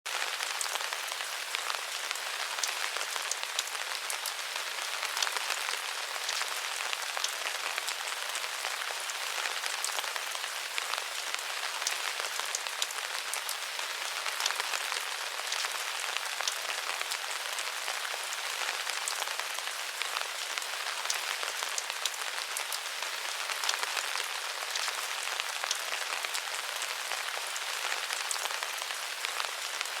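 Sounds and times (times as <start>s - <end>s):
steady rain falling: 0.1s - 30.0s.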